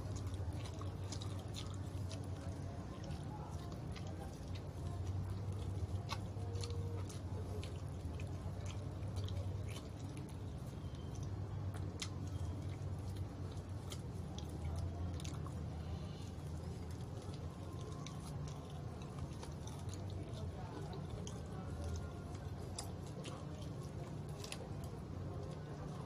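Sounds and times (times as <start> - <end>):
chewing crispy food: 0.0 - 26.0.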